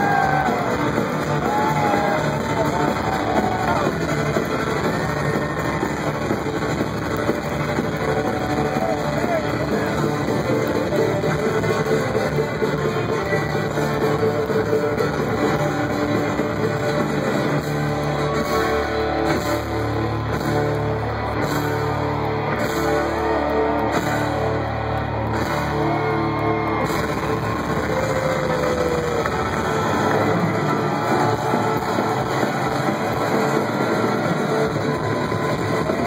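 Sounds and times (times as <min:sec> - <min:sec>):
electric guitar: 0:00.0 - 0:36.0.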